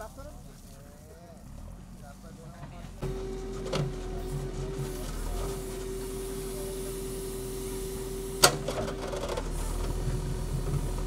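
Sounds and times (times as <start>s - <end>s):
backhoe engine and hydraulic hum: 0.0s - 11.0s.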